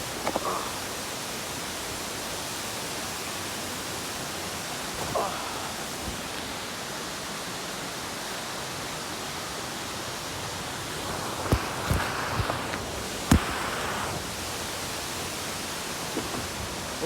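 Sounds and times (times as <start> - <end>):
rushing water from waterfall: 0.0 - 17.0.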